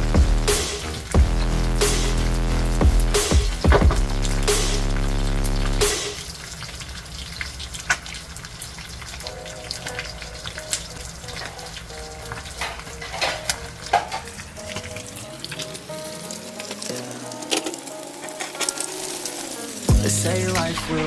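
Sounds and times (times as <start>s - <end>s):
fish sizzling in hot oil: 0.3s - 21.0s.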